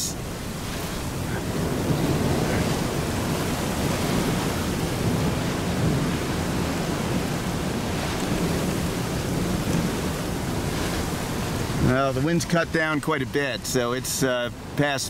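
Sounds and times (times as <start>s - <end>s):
strong wind on microphone: 0.0s - 12.9s.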